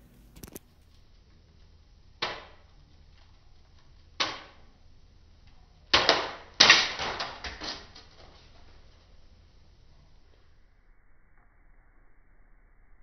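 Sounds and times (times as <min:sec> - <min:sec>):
ceiling fan faint hum: 0:00.0 - 0:10.8.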